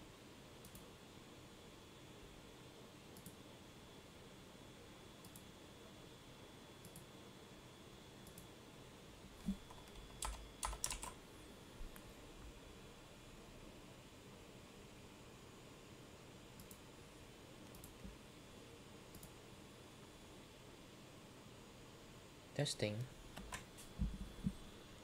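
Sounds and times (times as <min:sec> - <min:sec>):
room hiss: 0:00.0 - 0:25.0.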